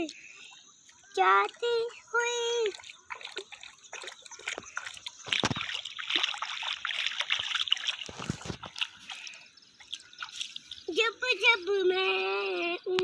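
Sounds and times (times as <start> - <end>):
river water splashing: 0.0 - 12.6.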